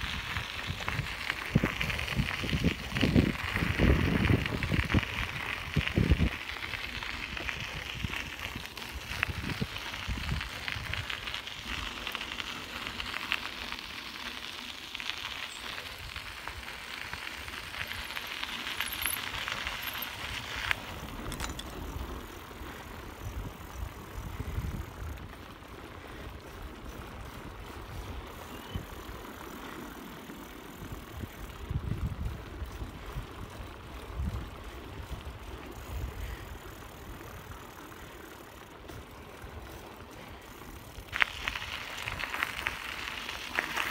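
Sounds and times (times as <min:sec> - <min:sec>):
bicycle tyres crunching on gravel: 0:00.0 - 0:43.9
bike rolling on wooden boardwalk: 0:00.0 - 0:43.9.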